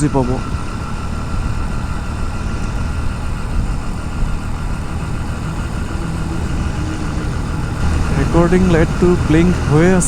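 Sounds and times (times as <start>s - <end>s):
motorcycle engine running: 0.0s - 10.0s
wind rush and road noise: 0.0s - 10.0s.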